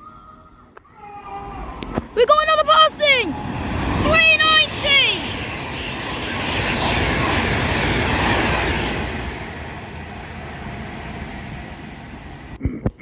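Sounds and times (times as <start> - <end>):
electric train passing at speed: 1.3 - 12.6.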